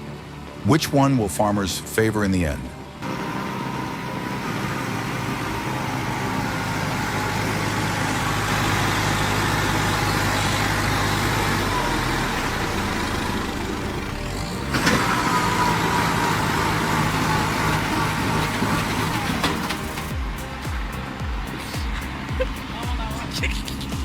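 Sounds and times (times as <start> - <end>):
tractor diesel engine running: 2.8 - 24.0.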